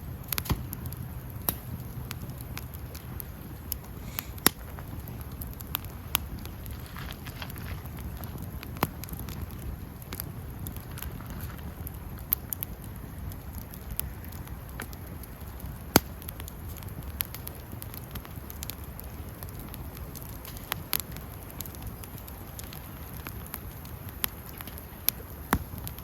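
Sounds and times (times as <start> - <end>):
campfire burning: 0.0 - 26.0
fire crackles and pops: 0.0 - 26.0.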